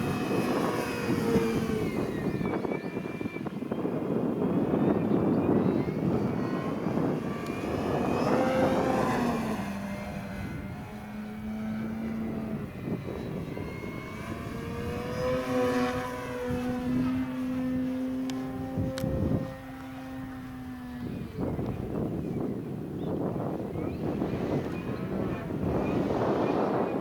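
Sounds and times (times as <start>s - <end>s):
model airplane motor droning: 0.0s - 27.0s.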